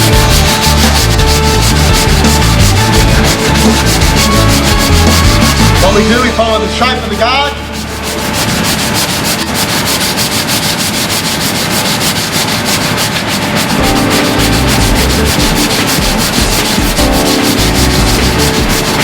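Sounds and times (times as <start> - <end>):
sandpaper rubbing body filler: 0.0 - 19.0.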